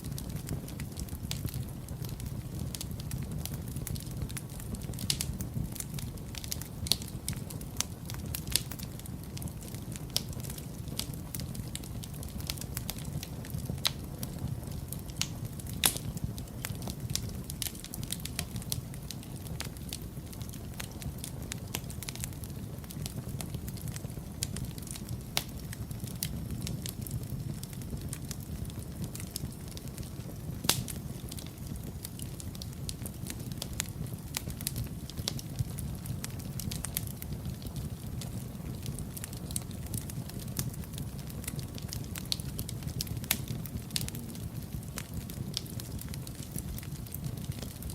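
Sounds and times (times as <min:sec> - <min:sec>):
low rumble of flames: 0:00.0 - 0:47.9
wood fire crackles and pops: 0:00.0 - 0:47.9.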